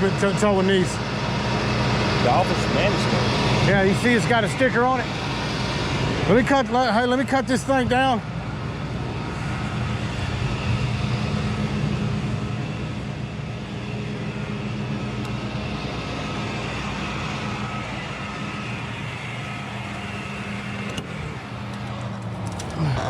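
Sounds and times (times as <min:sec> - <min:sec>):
tow truck engine running: 0:00.0 - 0:23.0.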